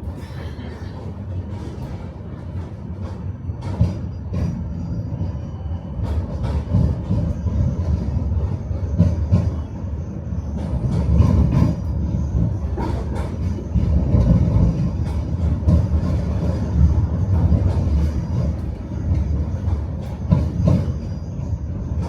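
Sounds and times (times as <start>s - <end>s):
tram low rumble: 0.0s - 22.0s
wheels clattering on track: 0.0s - 22.0s.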